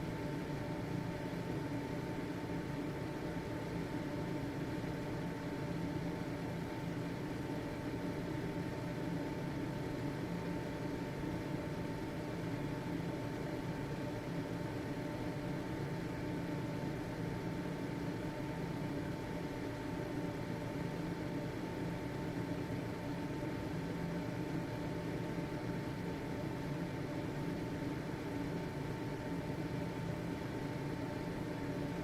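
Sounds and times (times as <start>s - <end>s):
faint motor whine: 0.0s - 32.0s
ventilation fan whooshing hum: 0.0s - 32.0s.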